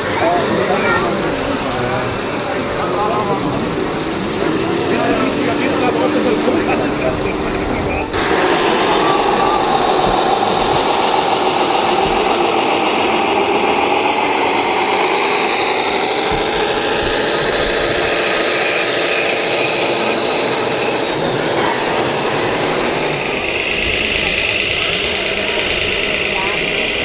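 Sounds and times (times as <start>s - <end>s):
model tractor motor whining: 3.8s - 27.0s.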